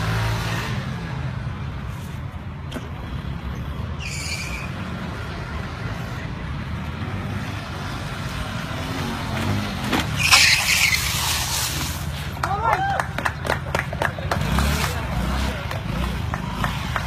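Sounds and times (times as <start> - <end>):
motorbike engines rumbling: 0.0 - 17.0.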